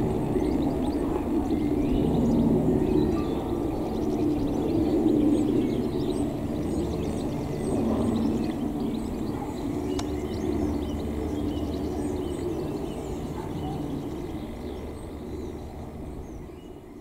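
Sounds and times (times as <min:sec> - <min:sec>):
distant aircraft drone: 0:00.0 - 0:17.0
small birds chirping: 0:00.0 - 0:17.0.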